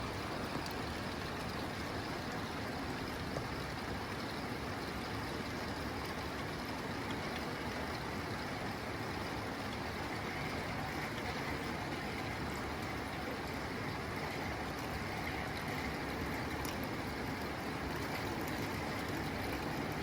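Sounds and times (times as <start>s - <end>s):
rain on a tin roof: 0.0s - 20.0s.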